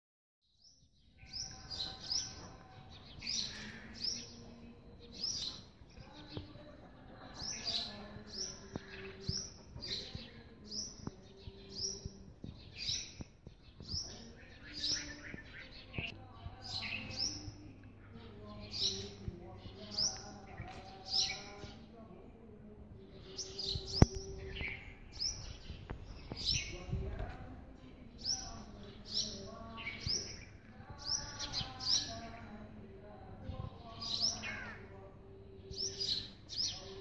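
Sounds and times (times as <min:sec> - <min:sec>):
small birds chirping: 0:00.5 - 0:37.0.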